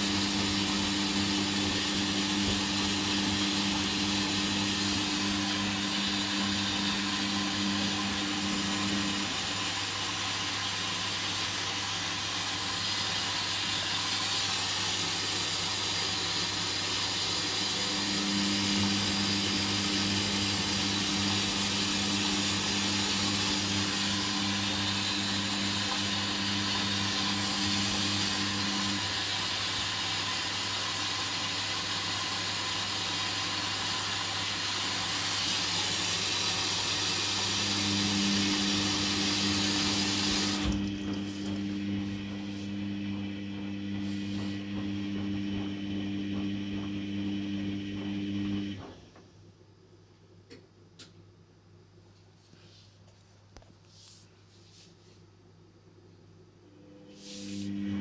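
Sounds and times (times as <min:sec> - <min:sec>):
washing machine hiss: 0:00.0 - 0:48.8, 0:56.9 - 0:58.0.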